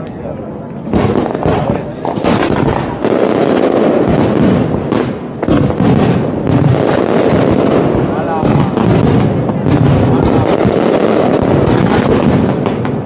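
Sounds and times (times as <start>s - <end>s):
fireworks bursting and crackling: 0.7s - 13.0s
loud firework bangs: 0.9s - 13.0s.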